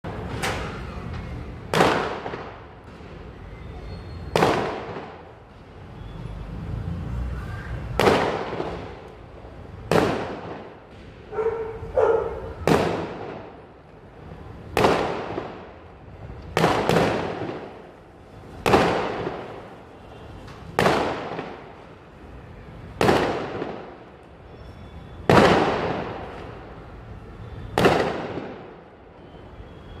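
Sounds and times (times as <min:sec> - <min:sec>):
firework bangs: 0:00.0 - 0:05.9, 0:07.8 - 0:29.9.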